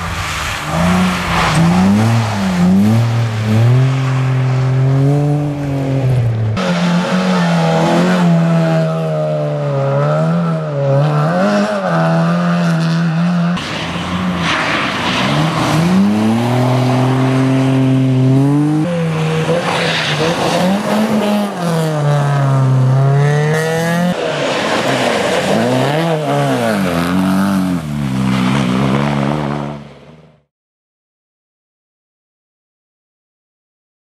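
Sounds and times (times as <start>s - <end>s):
rally car engines revving: 0.0s - 30.4s.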